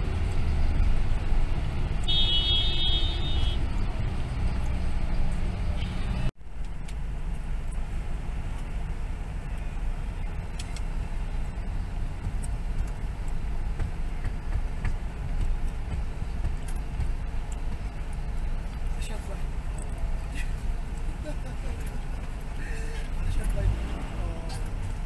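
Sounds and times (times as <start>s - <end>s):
engine and road rumble: 0.0s - 25.0s.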